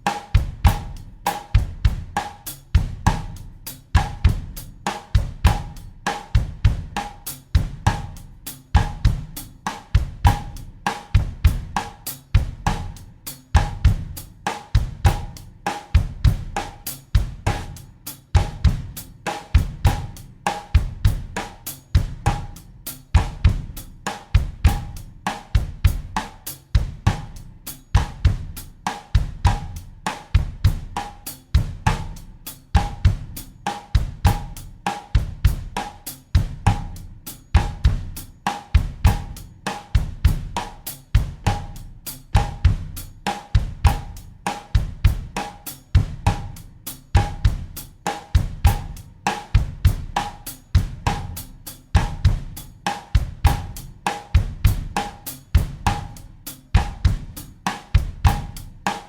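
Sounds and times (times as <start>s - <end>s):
drum kit bossa nova groove: 0.0s - 59.0s.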